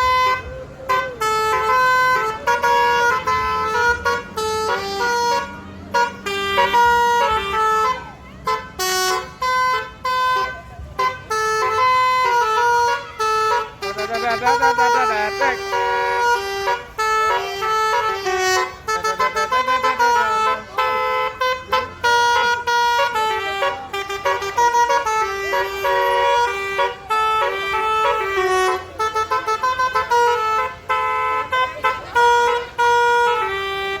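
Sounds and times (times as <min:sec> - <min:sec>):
musical air horn melody: 0:00.0 - 0:34.0.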